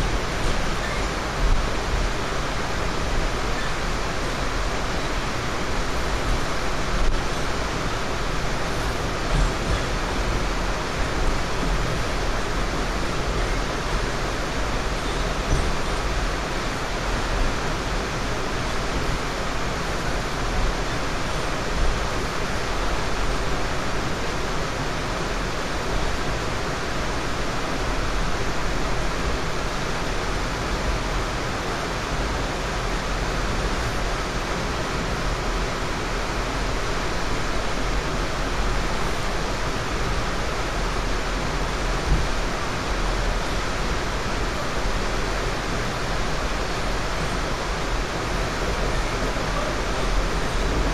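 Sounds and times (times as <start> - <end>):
train wheels rushing on rails: 0.0 - 50.9.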